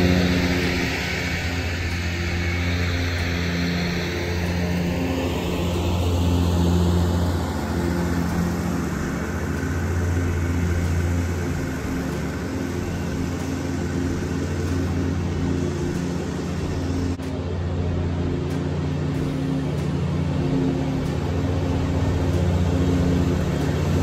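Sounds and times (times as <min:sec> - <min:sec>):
mower diesel engine running: 0:00.0 - 0:24.0.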